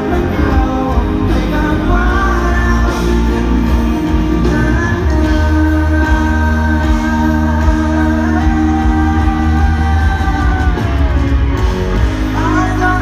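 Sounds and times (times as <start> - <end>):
heavy bass: 0.0 - 13.0
live pop-rock band: 0.0 - 13.0
person singing: 0.0 - 13.0.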